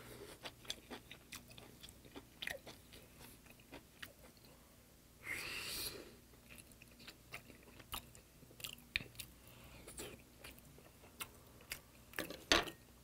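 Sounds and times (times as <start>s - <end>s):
person chewing food: 0.0s - 4.6s, 6.4s - 12.4s.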